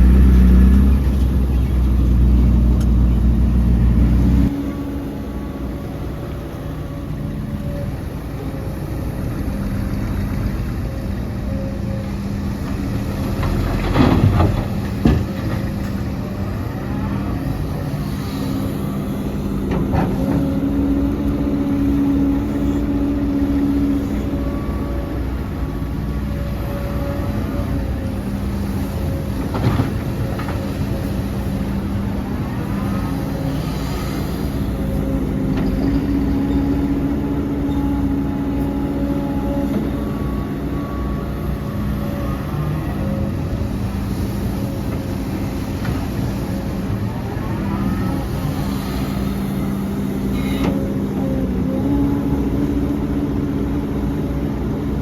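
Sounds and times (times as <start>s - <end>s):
diesel excavator engine running: 0.0s - 55.0s.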